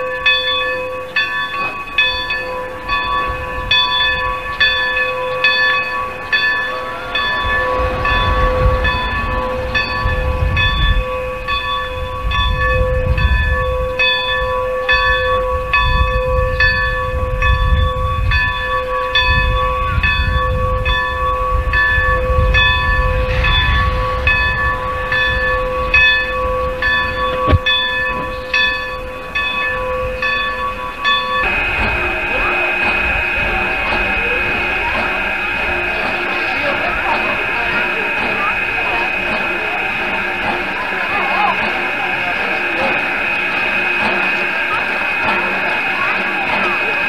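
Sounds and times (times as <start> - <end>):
locomotive bell ringing: 0.0 - 47.0
low train rumble: 0.0 - 47.0.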